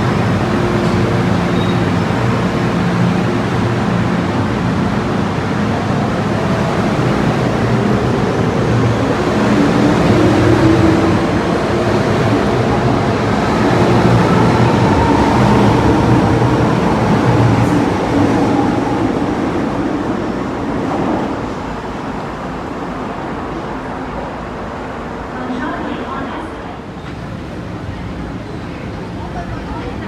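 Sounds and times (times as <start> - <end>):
electric train rumbling: 0.0 - 30.0.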